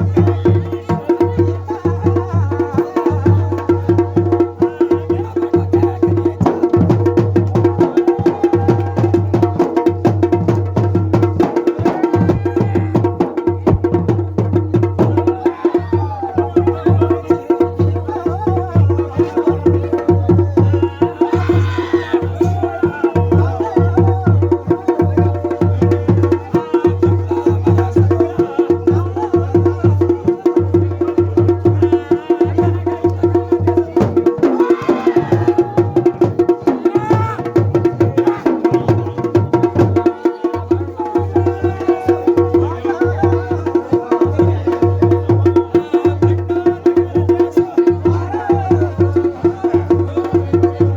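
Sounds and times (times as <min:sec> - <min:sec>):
deep booming drum: 0:00.0 - 0:50.9
drums in fast rhythm: 0:00.0 - 0:50.9.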